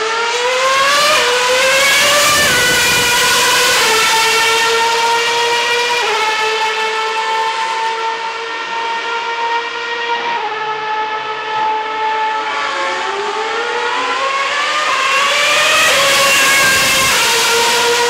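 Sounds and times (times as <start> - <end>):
high racing engine note: 0.0 - 18.0
racing car passing: 0.0 - 18.0.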